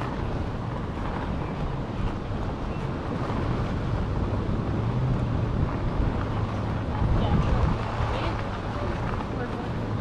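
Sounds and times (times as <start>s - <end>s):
steady low rumble: 0.0s - 10.0s
wind rushing over microphone: 0.0s - 10.0s.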